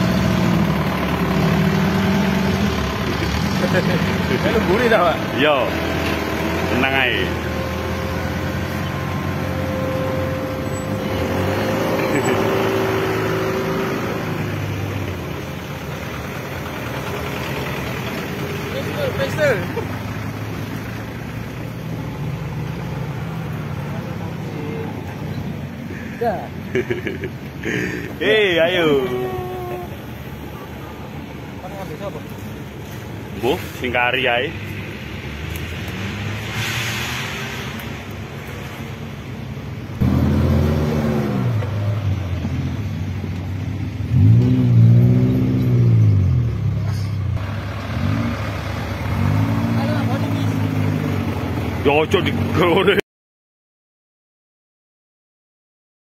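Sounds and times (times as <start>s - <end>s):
car engine running low revs: 0.0s - 24.4s, 32.2s - 52.8s.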